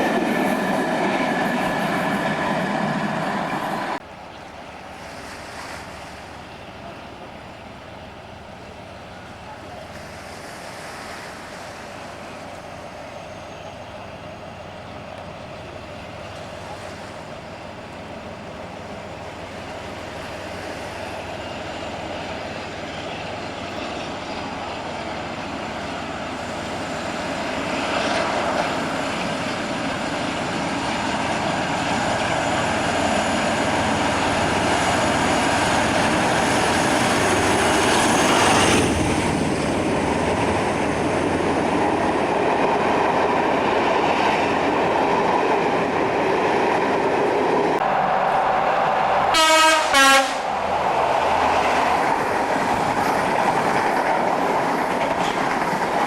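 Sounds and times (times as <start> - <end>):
train approaching: 0.0 - 56.0.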